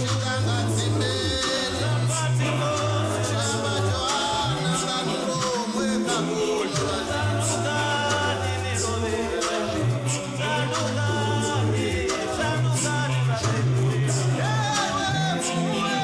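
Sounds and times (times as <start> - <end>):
backing music with bass and beat: 0.0 - 16.0
man singing into microphone: 0.0 - 16.0.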